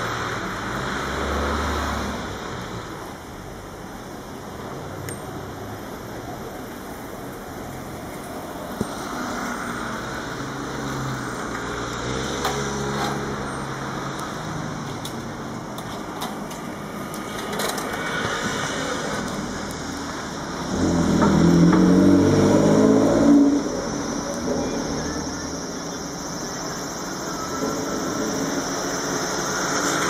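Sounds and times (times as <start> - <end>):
vehicle passing: 0.0 - 2.9, 5.8 - 15.7, 16.7 - 30.0.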